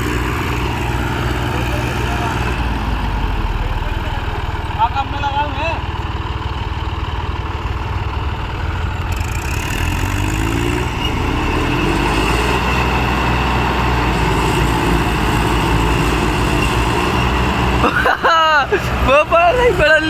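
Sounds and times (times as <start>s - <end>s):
tractor diesel engines under load: 0.0s - 20.0s.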